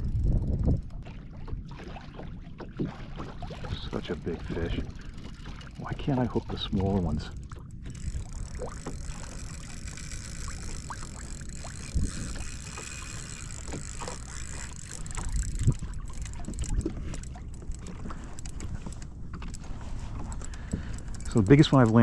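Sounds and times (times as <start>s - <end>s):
water sloshing around kayak: 0.0s - 22.0s
wind buffeting microphone: 0.0s - 22.0s.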